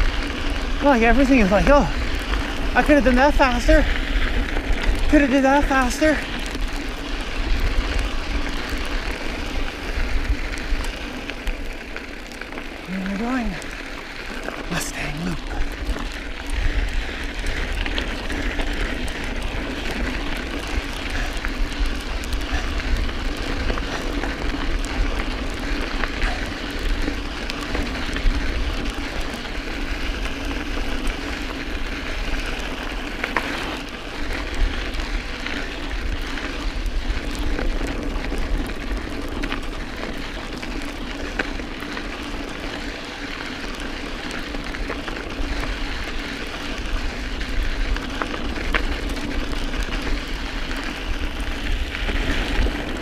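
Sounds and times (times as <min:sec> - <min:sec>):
bike rattles and clicks: 0:00.0 - 0:53.0
bike tyres on gravel: 0:00.0 - 0:53.0
wind rumble on microphone: 0:00.0 - 0:53.0.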